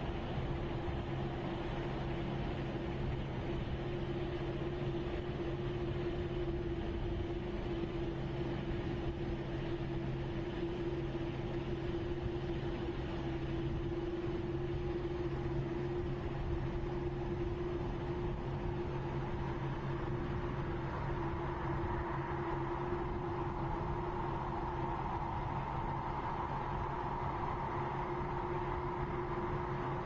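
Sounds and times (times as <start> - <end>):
steady engine drone: 0.0 - 30.0.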